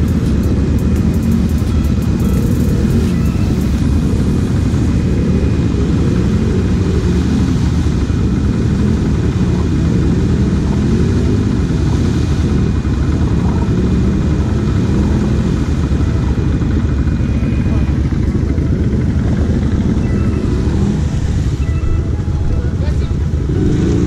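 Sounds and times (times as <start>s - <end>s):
quad engine idling: 0.0s - 24.0s.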